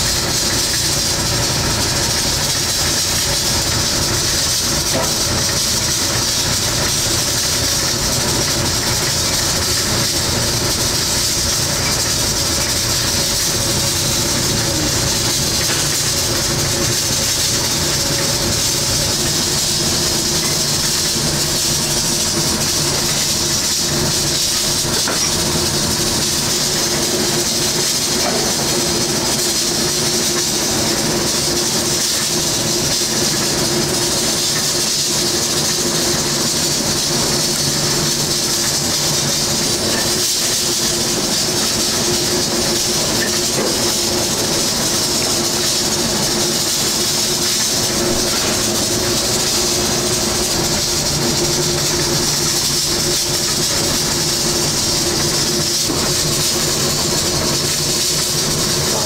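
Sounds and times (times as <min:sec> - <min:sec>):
exhaust fan hiss and hum: 0:00.0 - 0:59.0.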